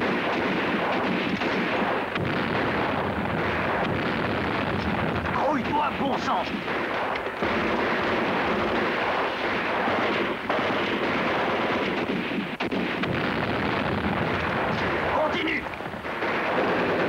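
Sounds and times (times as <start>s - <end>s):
gunfire and explosions: 0.0s - 17.0s
sharp gunshots: 0.0s - 17.0s.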